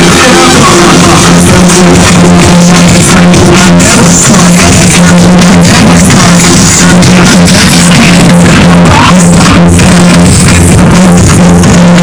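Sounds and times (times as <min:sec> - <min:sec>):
loud bass-heavy music: 0:00.0 - 0:12.0.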